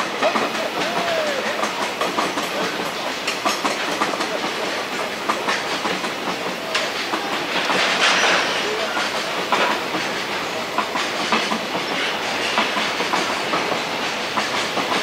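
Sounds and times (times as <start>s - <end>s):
freight train rolling: 0.0s - 15.0s
wheels clattering over rail joints: 0.0s - 15.0s.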